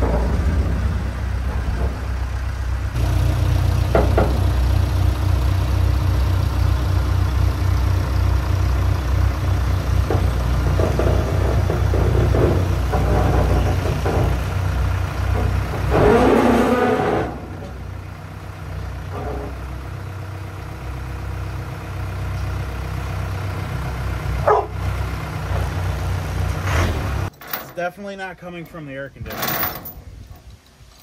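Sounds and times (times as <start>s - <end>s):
forklift engine working under load: 0.0s - 27.6s.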